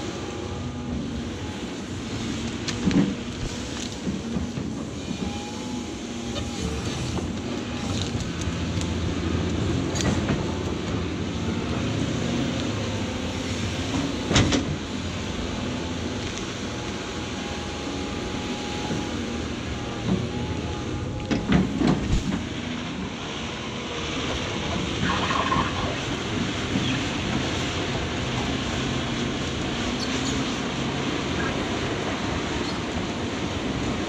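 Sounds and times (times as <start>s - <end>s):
excavator diesel engine under load: 0.0s - 34.0s.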